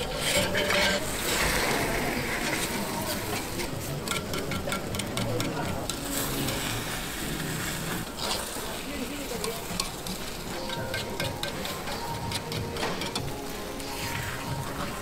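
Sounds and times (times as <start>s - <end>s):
batter sizzling in pans: 0.0s - 15.0s.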